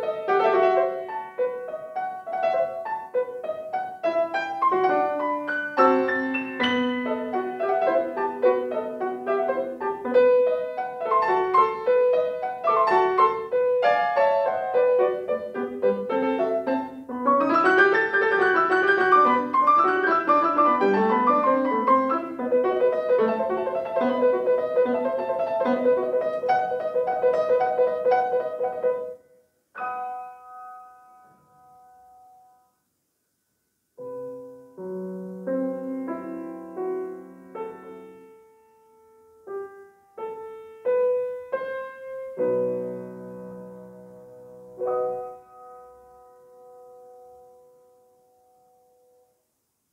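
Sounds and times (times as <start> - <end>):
grand piano playing classical piece: 0.0 - 32.8, 34.0 - 49.4.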